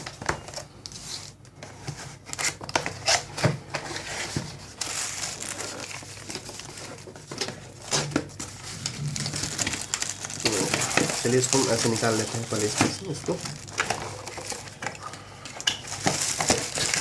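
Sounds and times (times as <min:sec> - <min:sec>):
box packaging crinkling and tearing: 0:02.1 - 0:17.0.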